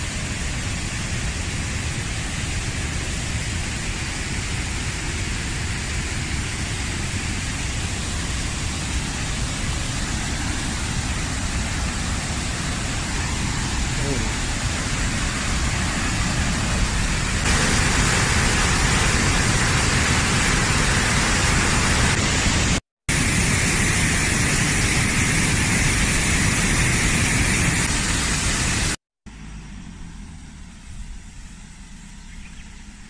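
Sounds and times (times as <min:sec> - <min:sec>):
waterfall rushing and splashing: 0:00.0 - 0:29.0
quiet outdoor background: 0:00.0 - 0:33.0.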